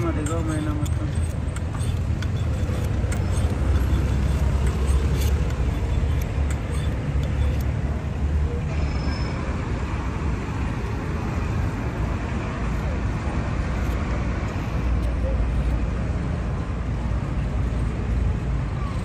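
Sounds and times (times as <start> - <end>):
low rumble of street traffic: 0.0 - 19.0.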